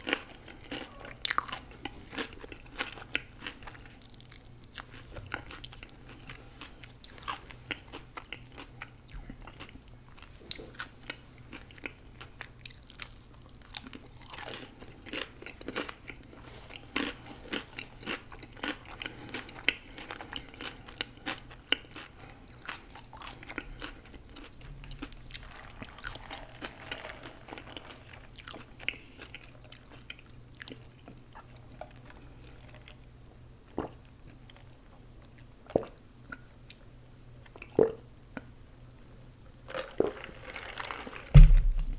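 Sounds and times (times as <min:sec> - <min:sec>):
person crunching and chewing food: 0:00.0 - 0:33.1, 0:33.7 - 0:38.6, 0:39.6 - 0:41.9.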